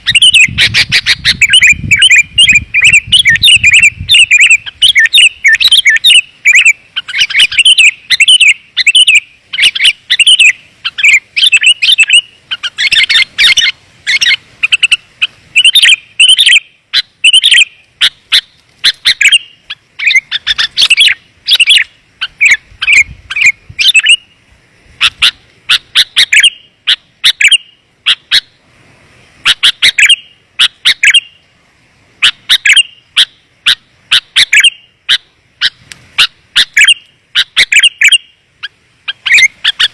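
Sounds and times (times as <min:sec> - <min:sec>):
bulbul chirping calls: 0:00.0 - 0:24.4, 0:25.0 - 0:28.6, 0:29.4 - 0:31.4, 0:32.2 - 0:39.9.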